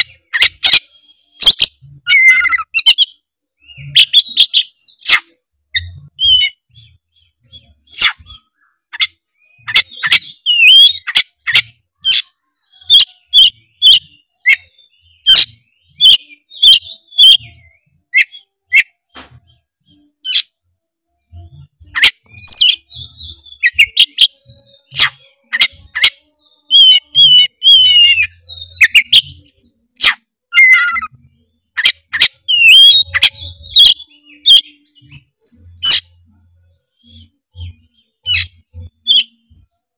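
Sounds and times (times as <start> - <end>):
bird song with clicks and whistles: 0.0 - 39.8.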